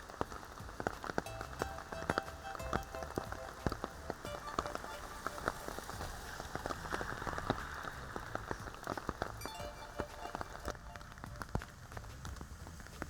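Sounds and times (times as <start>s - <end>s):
raindrops ticking on a surface: 0.0s - 13.0s
steady rain falling: 0.0s - 13.0s.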